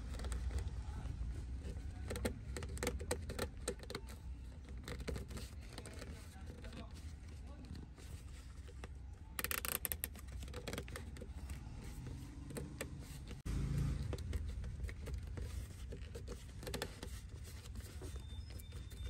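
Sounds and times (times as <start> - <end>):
handling rustle: 0.0 - 19.0.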